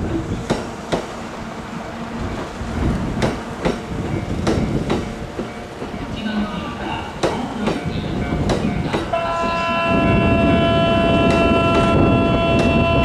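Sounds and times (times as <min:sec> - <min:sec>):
train wheels clicking: 0:00.0 - 0:01.1, 0:02.3 - 0:09.8, 0:11.1 - 0:13.0
low rumble of train: 0:00.0 - 0:13.0.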